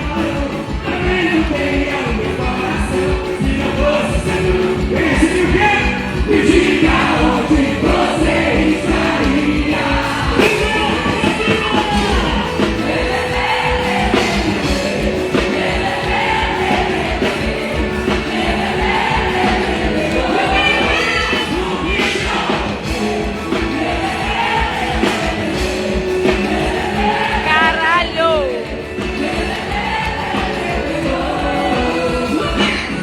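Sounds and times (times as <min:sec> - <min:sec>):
driving drum beat: 0:00.0 - 0:33.0
group singing: 0:00.0 - 0:33.0.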